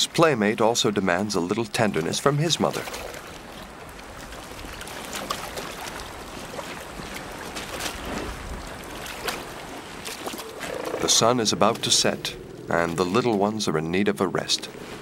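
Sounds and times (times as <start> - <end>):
light water splashes: 0.0 - 15.0
moving water: 0.0 - 15.0.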